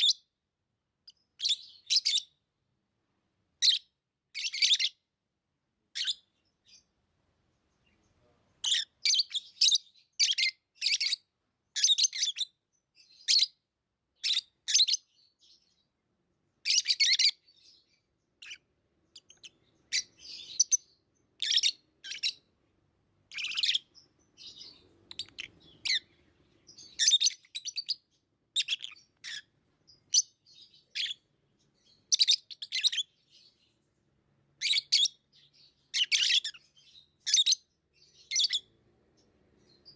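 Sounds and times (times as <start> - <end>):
lovebirds chirping: 0.0 - 0.4, 1.0 - 2.5, 3.2 - 5.1, 5.9 - 39.9.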